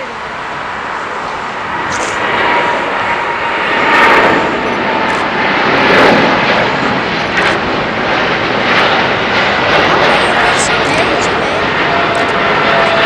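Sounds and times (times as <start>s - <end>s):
jet engines passing close: 0.0s - 13.0s.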